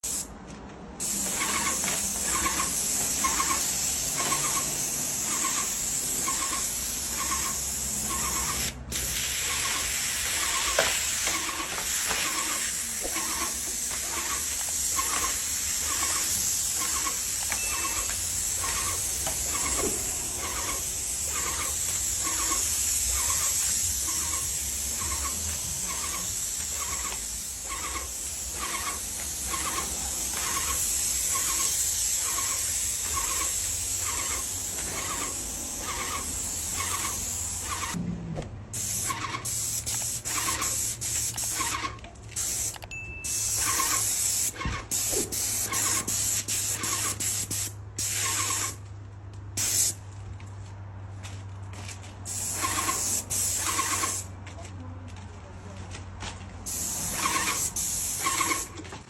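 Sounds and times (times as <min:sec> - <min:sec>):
paint sprayer hissing: 0:00.0 - 0:00.3, 0:01.0 - 0:38.0, 0:38.7 - 0:48.8, 0:49.6 - 0:50.0, 0:52.3 - 0:54.3, 0:56.6 - 0:59.0.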